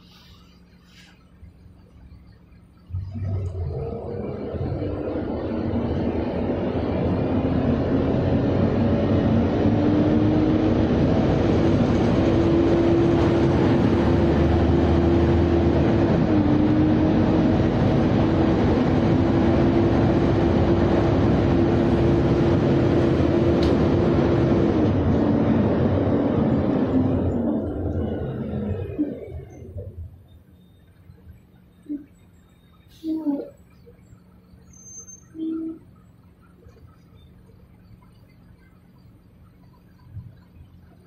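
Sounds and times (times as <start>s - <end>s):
bus engine and road noise: 0.0s - 41.0s.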